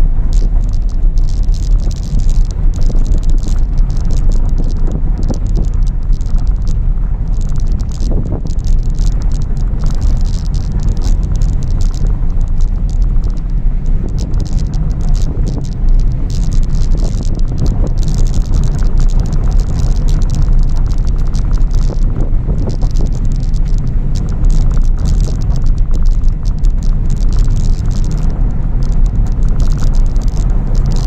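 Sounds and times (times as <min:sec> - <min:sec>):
gravel crackling under tyres: 0:00.0 - 0:31.0
tyres and engine rumble: 0:00.0 - 0:31.0.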